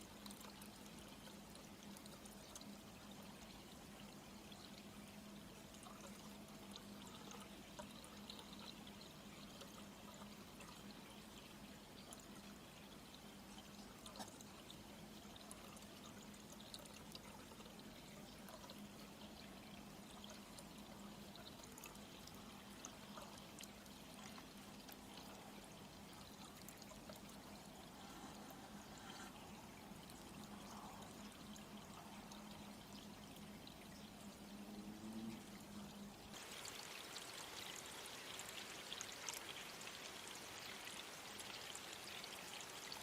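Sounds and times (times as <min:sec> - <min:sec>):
faint steady hiss: 0:00.0 - 0:43.0
low steady hum: 0:00.0 - 0:43.0.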